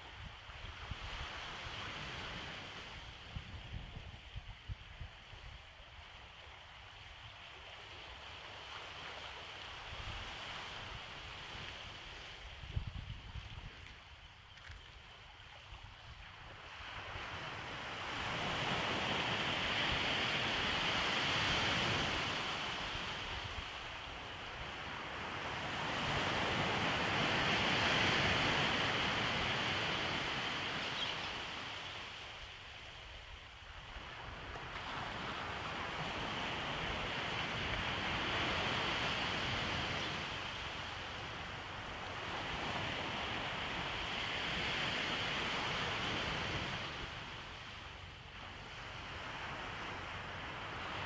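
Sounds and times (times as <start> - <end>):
waves breaking on a beach: 0.0 - 51.0.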